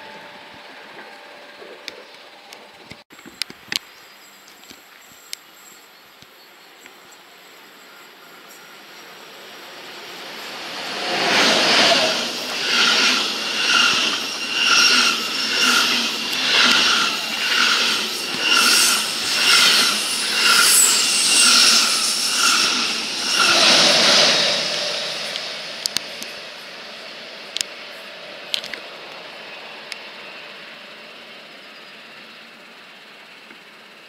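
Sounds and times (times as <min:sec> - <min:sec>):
high-speed train passing: 0:00.0 - 0:03.0, 0:07.4 - 0:34.0.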